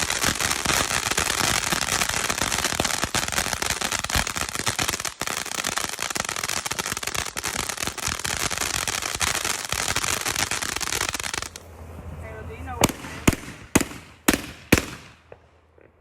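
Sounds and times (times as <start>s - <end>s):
firework crackling pops and hiss: 0.0s - 11.7s, 12.8s - 16.0s.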